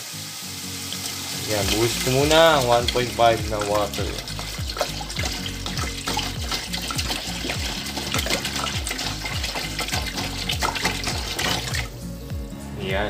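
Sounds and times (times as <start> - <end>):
water pouring into a pot: 0.0 - 12.0.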